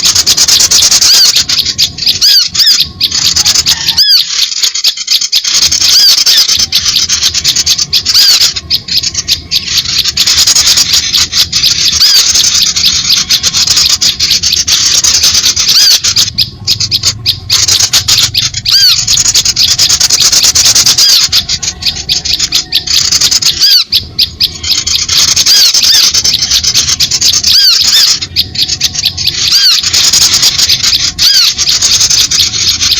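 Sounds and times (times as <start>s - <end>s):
small birds chirping and chattering: 0.0s - 32.9s.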